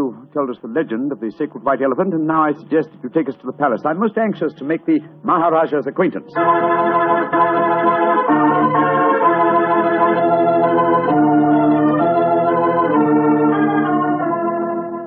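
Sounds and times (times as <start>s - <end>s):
sustained organ chords: 0.0s - 15.0s.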